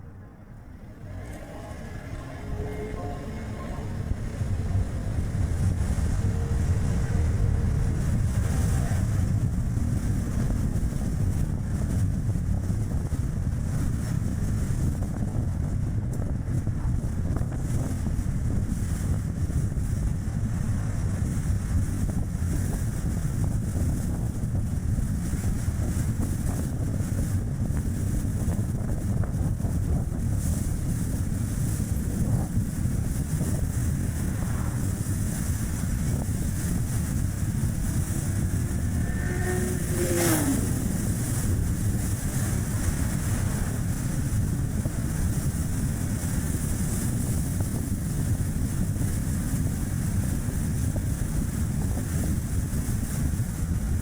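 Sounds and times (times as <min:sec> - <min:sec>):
car road and tyre noise: 0:00.0 - 0:54.0
wind buffeting microphone: 0:00.0 - 0:54.0.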